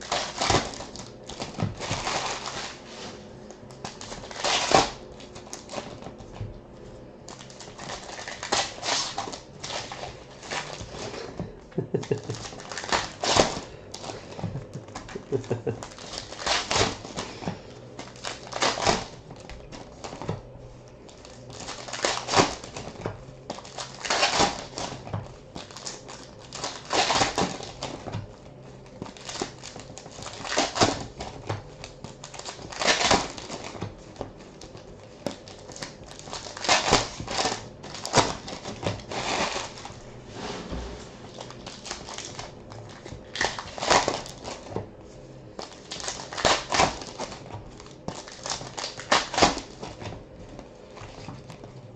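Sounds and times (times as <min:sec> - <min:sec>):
card pack wrappers tearing and crinkling: 0:00.0 - 0:06.2, 0:07.2 - 0:20.3, 0:21.0 - 0:40.0, 0:41.2 - 0:44.8, 0:45.5 - 0:50.2.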